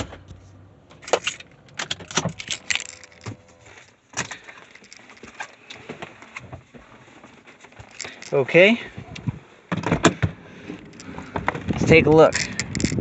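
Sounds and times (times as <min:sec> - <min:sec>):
clicks and metallic rattles: 0:00.0 - 0:06.7, 0:07.4 - 0:13.0.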